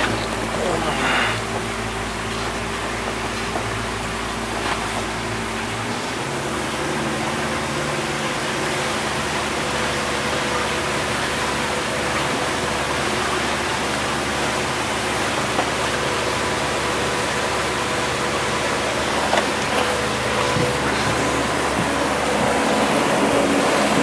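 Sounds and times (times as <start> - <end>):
outboard motor running: 0.0 - 24.0
water rushing over hull: 0.0 - 24.0.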